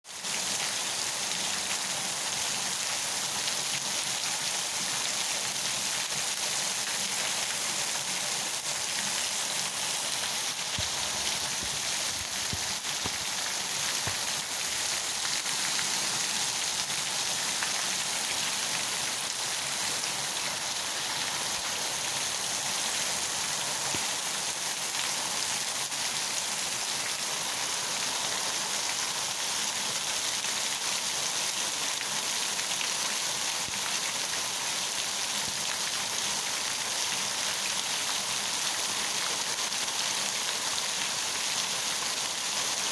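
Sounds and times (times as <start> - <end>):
rain falling: 0.4 - 42.9.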